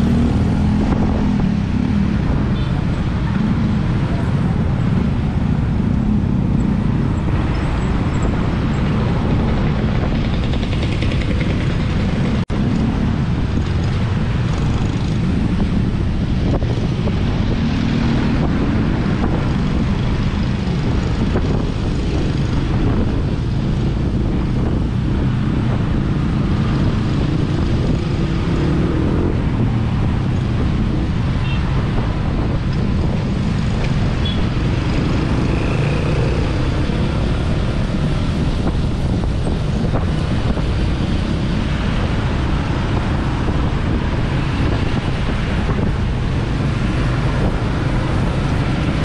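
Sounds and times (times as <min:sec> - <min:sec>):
wind and road noise rumble: 0:00.0 - 0:49.0.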